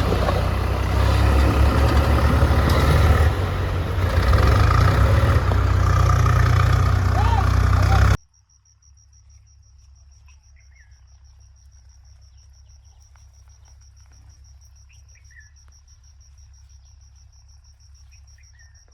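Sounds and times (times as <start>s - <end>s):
insect chirping pulses: 0.0s - 18.9s.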